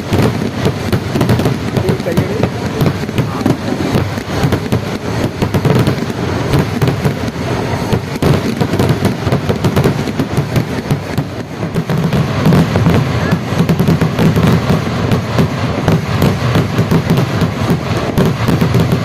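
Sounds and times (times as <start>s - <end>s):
firecracker bangs crackling: 0.0s - 19.0s.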